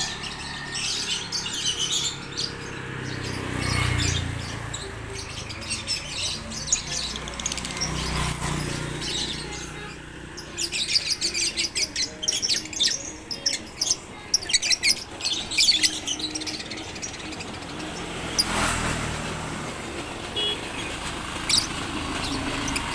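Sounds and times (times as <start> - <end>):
lovebirds twittering: 0.0 - 22.9.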